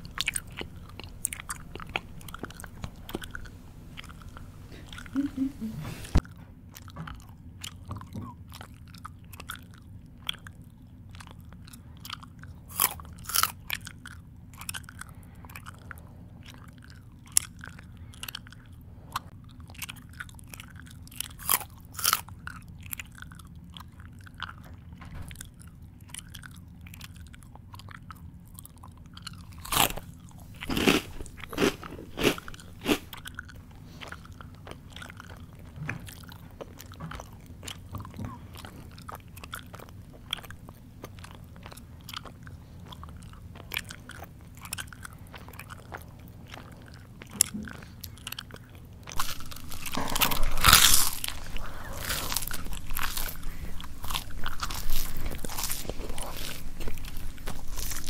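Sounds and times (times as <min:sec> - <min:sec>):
person chewing crunchy food: 0:00.0 - 0:58.0
steady low hum: 0:00.0 - 0:58.0.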